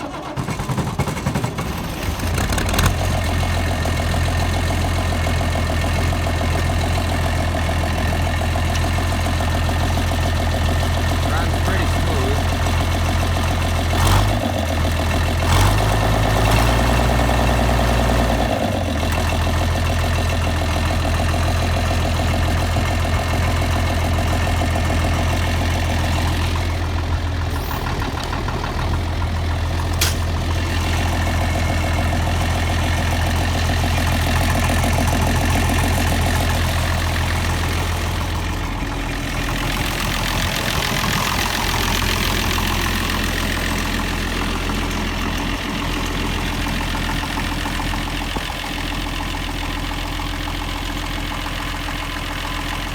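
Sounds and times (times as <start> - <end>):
diesel tractor idling: 0.0 - 52.9.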